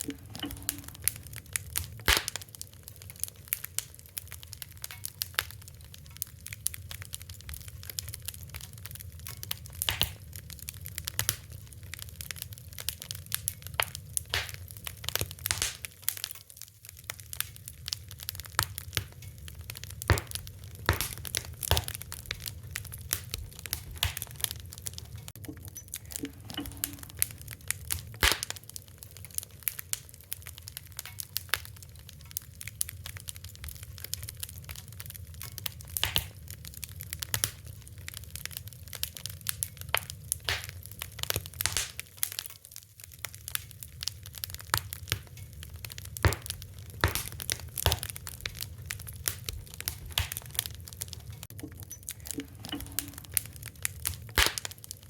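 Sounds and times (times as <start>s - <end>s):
fire crackling and popping: 0.0s - 55.0s
low fire rumble: 0.0s - 55.0s.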